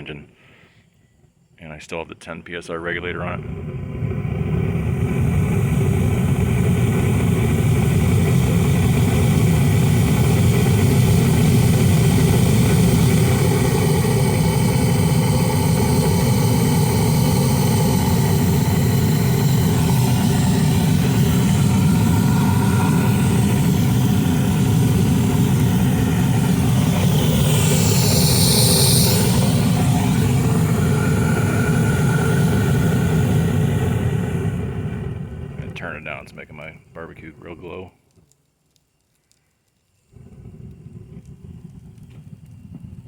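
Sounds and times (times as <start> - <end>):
propane burner roaring: 2.4 - 38.4, 39.1 - 43.0.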